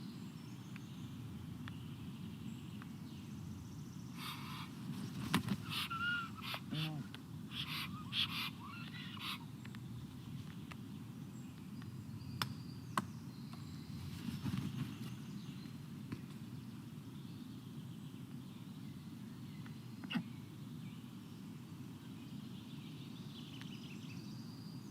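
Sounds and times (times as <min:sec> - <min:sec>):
distant bird calls: 0:00.0 - 0:24.7.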